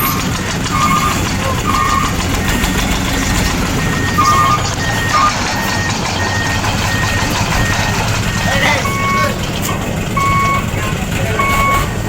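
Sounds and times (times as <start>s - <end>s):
reversing alarm beeping: 0.0s - 12.0s
vehicle noise: 0.0s - 12.0s.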